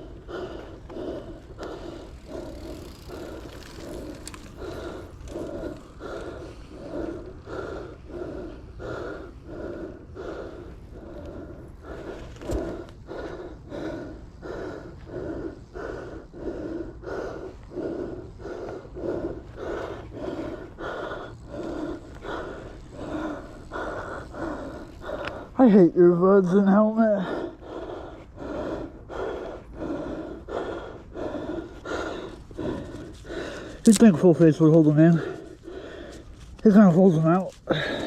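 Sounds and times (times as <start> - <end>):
person panting hard: 0.0 - 38.0.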